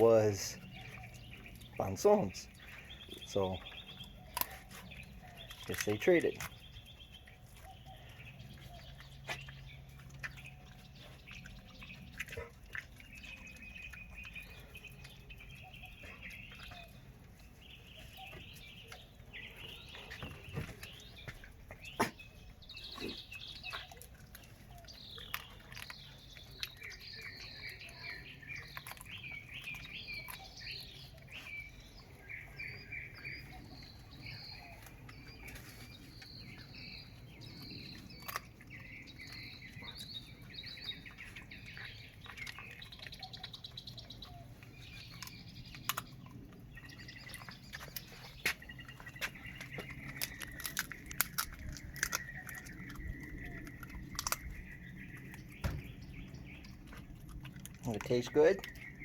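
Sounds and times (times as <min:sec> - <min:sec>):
dog crunching frozen fish: 0:00.0 - 0:59.0
small birds chirping: 0:00.0 - 0:59.0.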